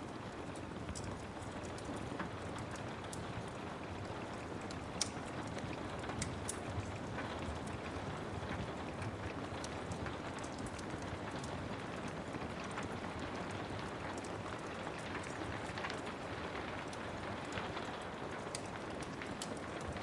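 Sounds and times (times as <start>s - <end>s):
rain falling: 0.0s - 20.0s
wood fire crackling: 0.0s - 20.0s.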